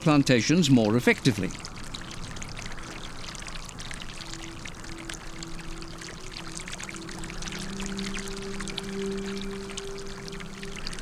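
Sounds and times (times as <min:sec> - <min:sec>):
soft background music: 0:00.0 - 0:11.0
water gushing from a pipe: 0:00.0 - 0:11.0.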